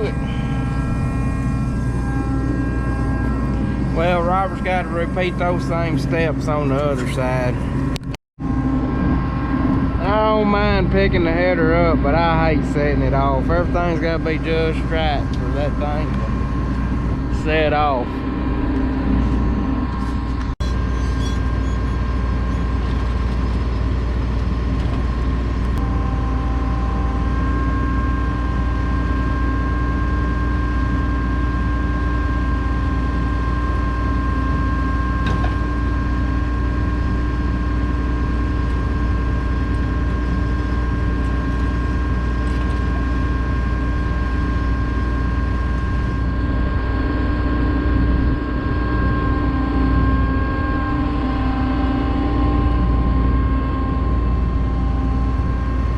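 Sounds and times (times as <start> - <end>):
combine diesel drone with whine: 0.0 - 55.9.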